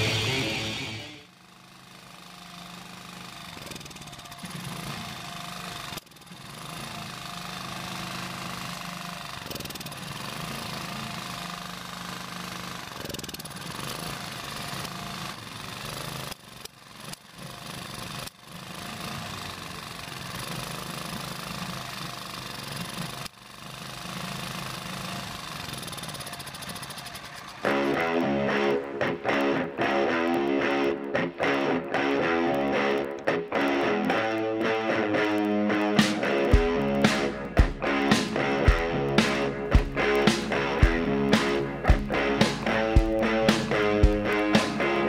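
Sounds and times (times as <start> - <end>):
generator engine running unevenly: 0.0 - 29.0, 35.8 - 45.0
carburetor backfire: 0.0 - 45.0.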